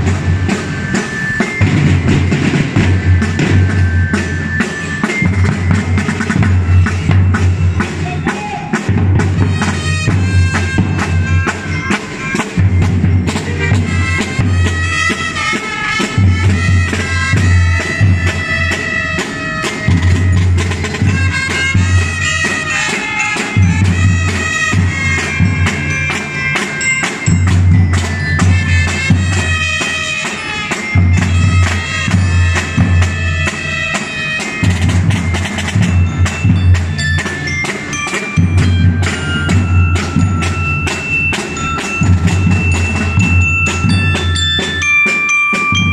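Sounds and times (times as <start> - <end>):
bell lyres ringing melody: 0.0 - 45.9
snare drums beating: 0.0 - 45.9.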